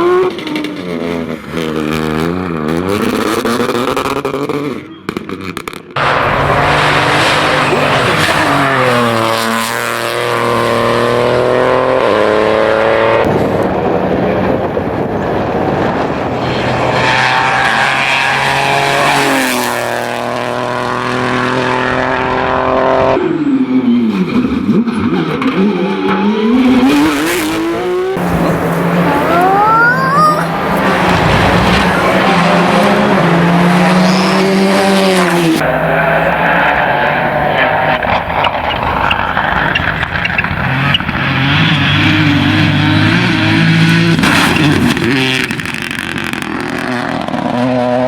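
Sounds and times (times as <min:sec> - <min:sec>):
rally car engines revving: 0:00.0 - 0:48.0.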